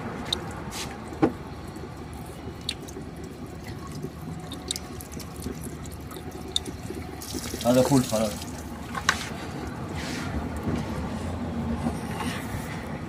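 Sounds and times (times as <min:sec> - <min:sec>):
water dripping and splashing: 0:00.0 - 0:11.0.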